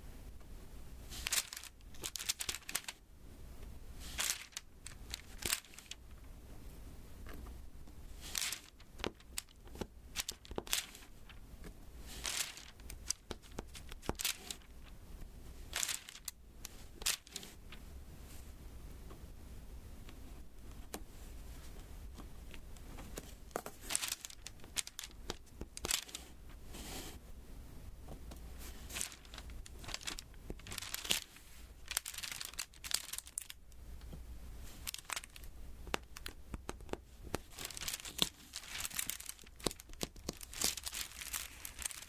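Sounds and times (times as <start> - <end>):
sticky canvas crackling and crinkling: 1.1 - 3.0, 4.0 - 6.2, 7.3 - 18.5, 20.0 - 27.2, 28.1 - 42.0.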